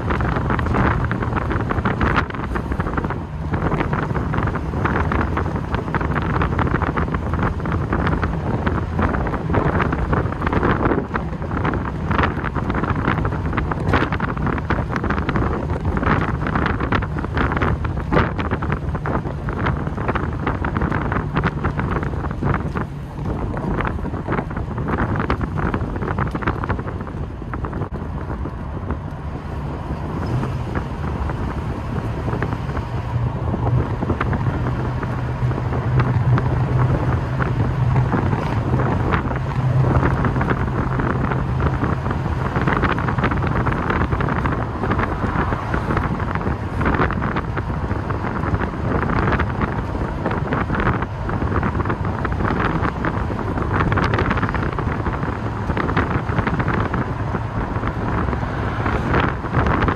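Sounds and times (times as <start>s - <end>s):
car engine burbling: 0.0s - 59.9s
wind buffeting microphone: 0.0s - 59.9s.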